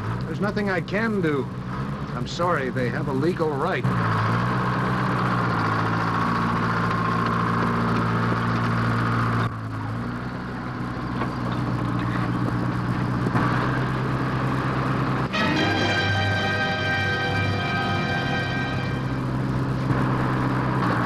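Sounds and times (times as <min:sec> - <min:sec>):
bulldozer engine running: 0:00.0 - 0:21.0.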